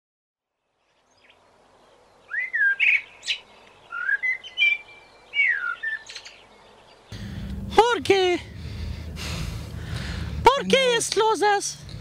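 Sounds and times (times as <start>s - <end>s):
songbird singing: 0.4s - 12.0s.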